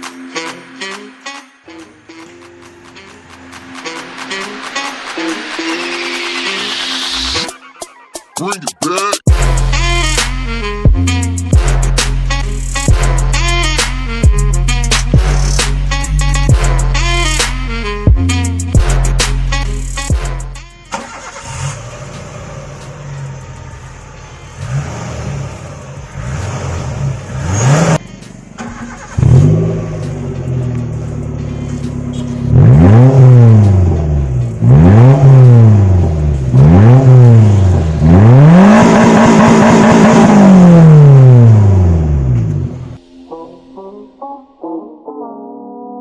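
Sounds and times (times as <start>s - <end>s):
car engine revving: 0.0s - 7.5s, 11.2s - 43.0s.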